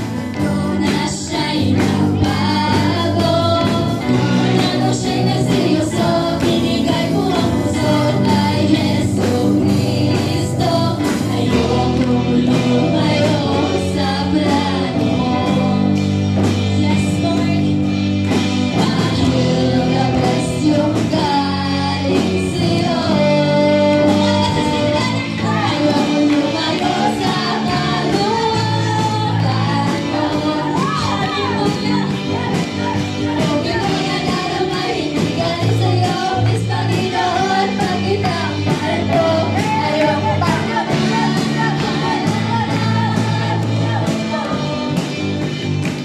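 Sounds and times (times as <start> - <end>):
bass guitar: 0.0 - 46.0
drums: 0.0 - 46.0
electric guitar: 0.0 - 46.0
keyboard: 0.0 - 46.0
women singing: 0.0 - 46.0.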